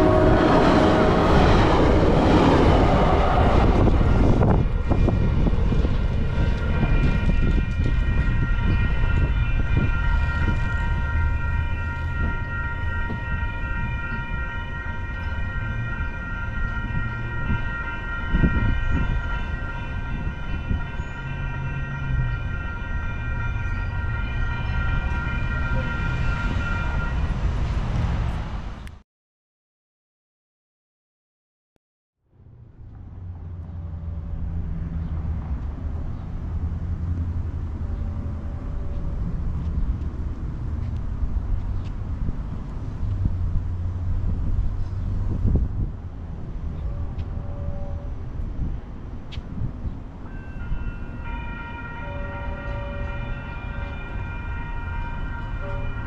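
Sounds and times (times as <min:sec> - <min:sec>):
diesel locomotive engine rumble: 0:00.0 - 0:29.0, 0:32.3 - 0:56.0.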